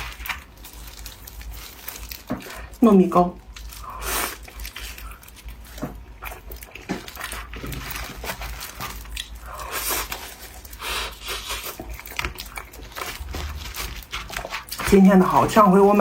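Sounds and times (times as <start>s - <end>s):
person chewing rice cake: 0.0s - 16.0s.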